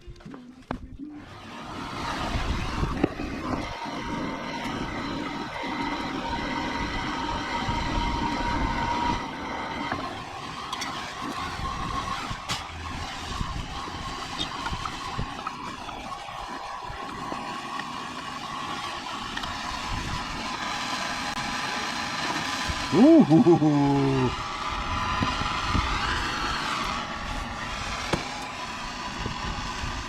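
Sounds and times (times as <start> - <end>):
whine: 0.0 - 30.0.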